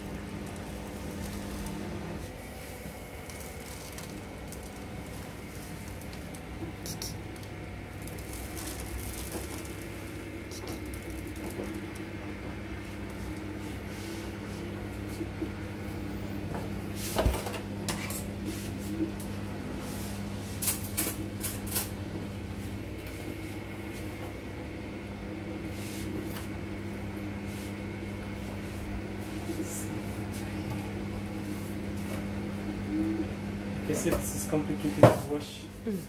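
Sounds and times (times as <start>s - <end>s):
litter box motor humming: 0.0s - 36.0s.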